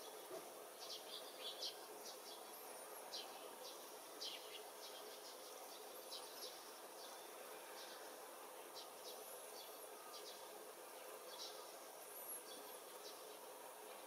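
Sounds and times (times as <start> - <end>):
small birds chirping: 0.0 - 13.5
outdoor background hiss: 0.0 - 14.0.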